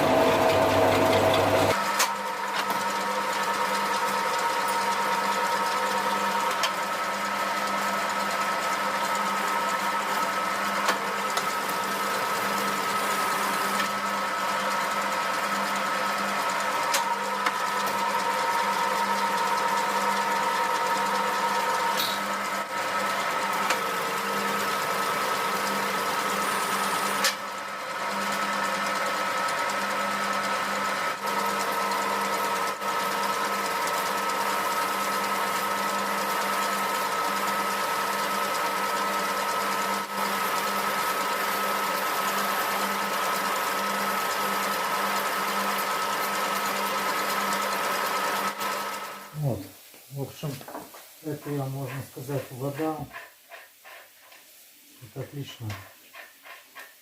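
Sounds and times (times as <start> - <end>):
metal lathe humming: 0.0 - 49.3.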